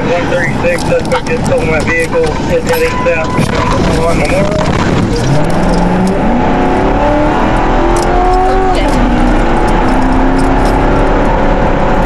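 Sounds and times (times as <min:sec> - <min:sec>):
car engine accelerating: 0:00.0 - 0:12.0
road and wind rumble: 0:00.0 - 0:12.0.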